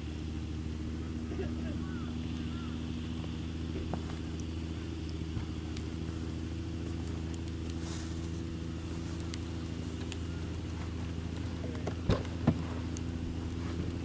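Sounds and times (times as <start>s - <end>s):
campfire crackling: 0.0s - 14.0s
engine idling: 0.0s - 14.0s.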